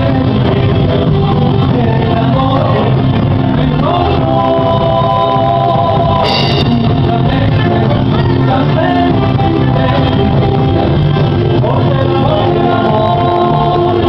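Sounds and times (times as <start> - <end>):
live folk music with singing: 0.0 - 14.0.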